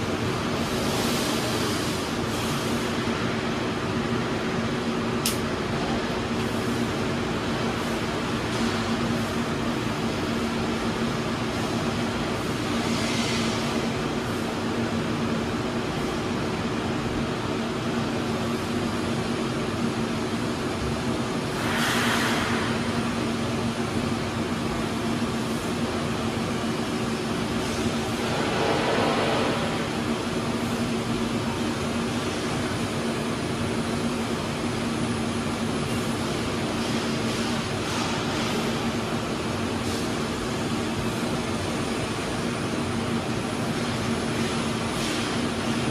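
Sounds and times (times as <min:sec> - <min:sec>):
machine hum with fan whoosh: 0:00.0 - 0:45.9.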